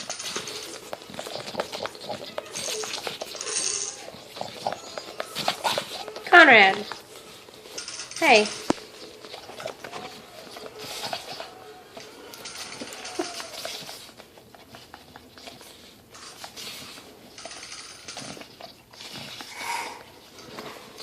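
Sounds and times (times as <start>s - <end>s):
dog snuffling: 0.0s - 17.4s.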